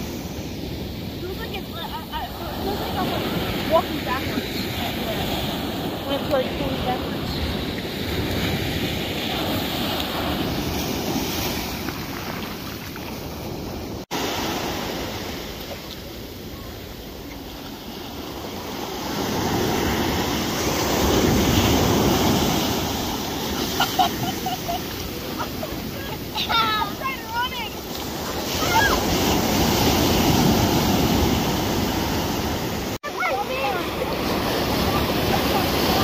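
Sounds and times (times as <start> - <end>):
ocean surf washing on beach: 0.0 - 36.0.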